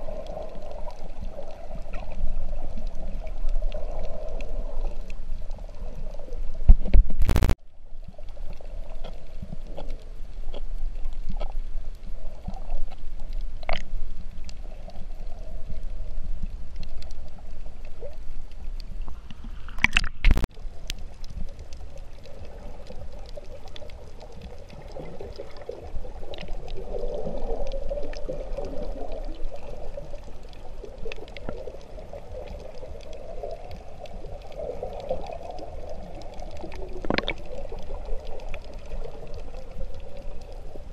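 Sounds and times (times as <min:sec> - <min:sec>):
faint clicks: 0:00.0 - 0:40.9
muffled underwater water rumble: 0:00.0 - 0:40.9.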